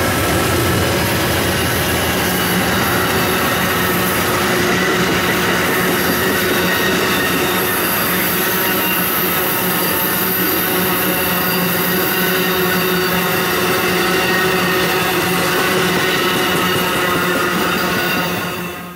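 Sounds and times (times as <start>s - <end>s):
train cars rolling over bridge: 0.0s - 18.6s
wheels squealing on rails: 0.0s - 18.9s.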